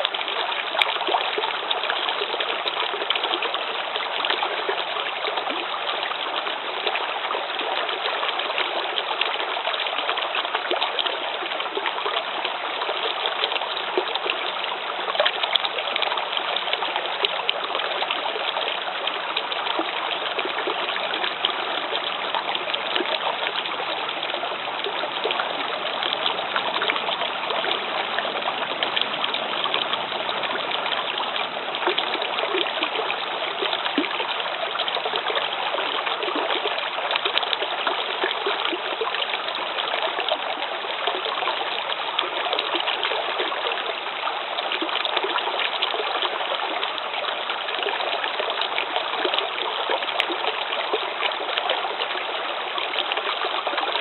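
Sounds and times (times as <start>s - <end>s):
brook babbling over rocks: 0.0s - 54.0s.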